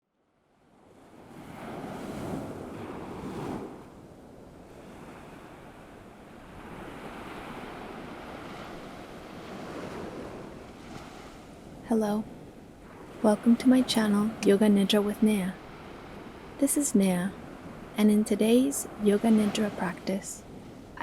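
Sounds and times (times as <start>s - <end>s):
ocean waves washing onto shore: 0.4s - 21.0s.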